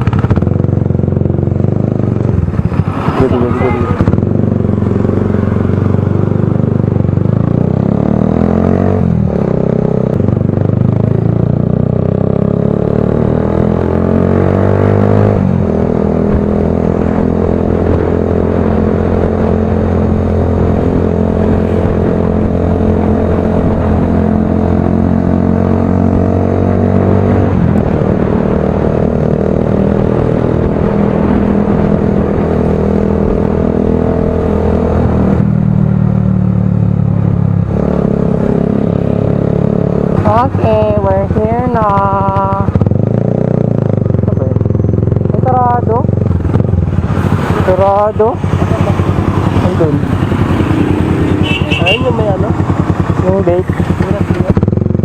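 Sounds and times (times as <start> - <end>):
motorcycle engine with loud exhaust: 0.0 - 55.0.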